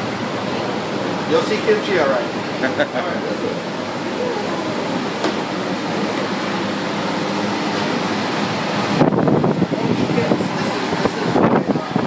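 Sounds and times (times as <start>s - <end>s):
refrigeration fans whirring: 0.0s - 12.0s.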